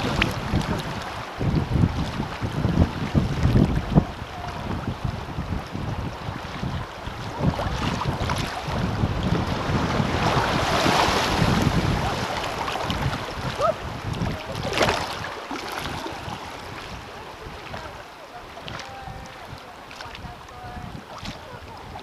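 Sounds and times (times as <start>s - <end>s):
kayak paddle splashing: 0.0s - 22.0s
river water rushing: 0.0s - 22.0s
wind buffeting microphone: 0.0s - 22.0s.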